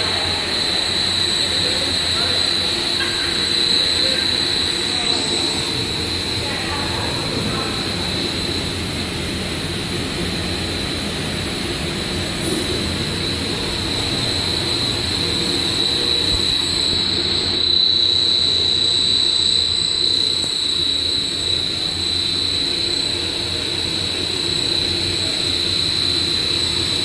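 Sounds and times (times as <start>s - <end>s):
high-pitched machine whine: 0.0s - 27.0s
low machinery running noise: 0.0s - 27.0s.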